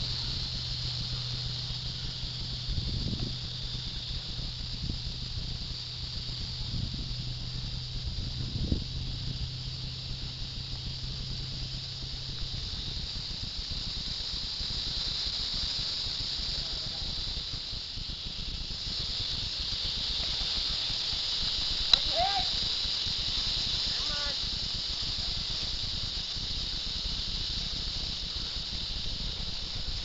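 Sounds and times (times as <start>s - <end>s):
high-pitched hiss: 0.0s - 30.0s.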